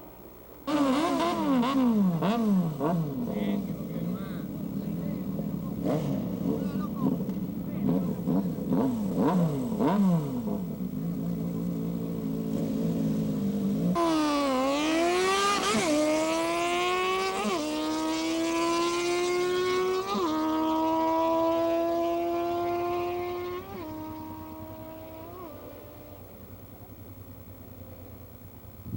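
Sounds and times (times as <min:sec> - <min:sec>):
motorcycle engine accelerating: 0:00.6 - 0:28.9.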